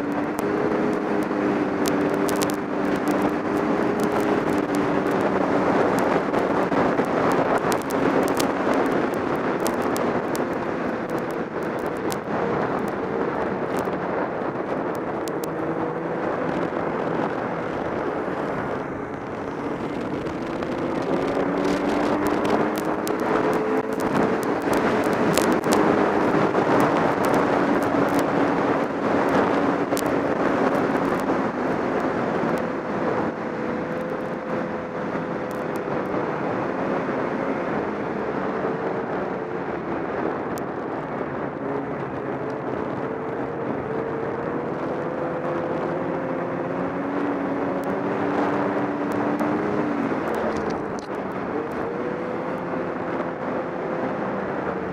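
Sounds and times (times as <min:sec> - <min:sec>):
snowmobile engine: 0:00.0 - 0:54.9
wind rushing over microphone: 0:00.0 - 0:54.9.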